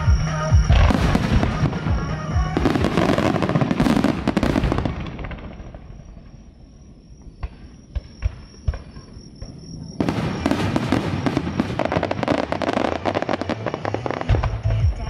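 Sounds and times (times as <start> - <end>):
fireworks bursting and crackling: 0.0 - 15.0
firework bangs: 0.6 - 14.8.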